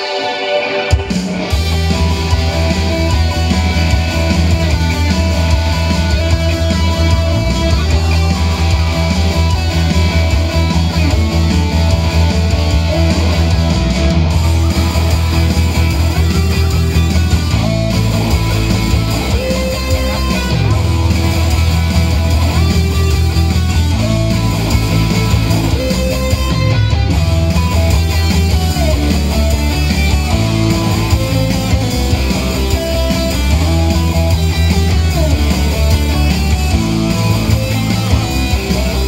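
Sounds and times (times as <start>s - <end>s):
electric guitar rock instrumental: 0.0s - 39.0s
heavy low bass: 1.0s - 39.0s.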